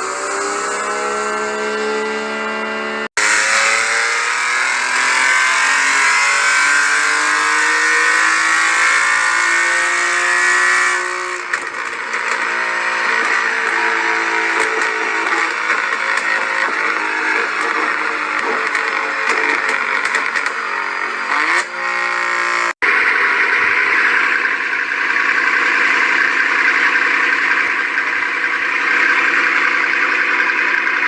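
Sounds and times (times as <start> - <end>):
car engines accelerating: 0.0 - 31.0
loud car engine climbing in pitch: 0.0 - 31.0.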